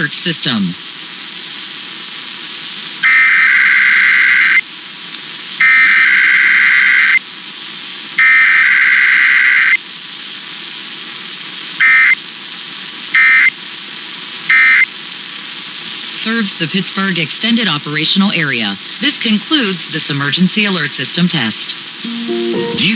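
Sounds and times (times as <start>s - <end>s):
steady hiss: 0.0s - 22.9s.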